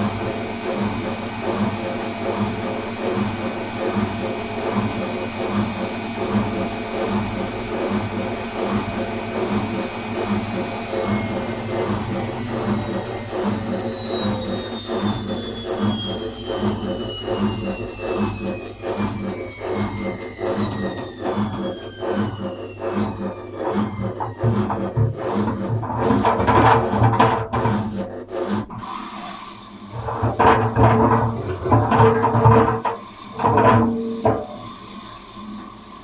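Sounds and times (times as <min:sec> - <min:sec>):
washing machine spinning: 0:00.0 - 0:36.0.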